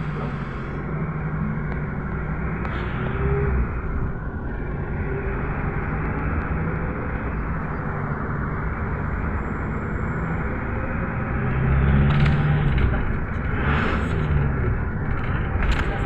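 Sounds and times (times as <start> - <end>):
engine hum: 0.0 - 16.0
road and tyre noise: 0.0 - 16.0.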